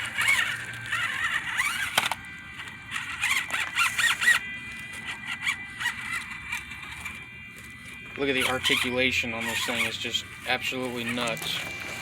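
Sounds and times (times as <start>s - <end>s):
toy truck electric motor whining: 0.0s - 12.0s.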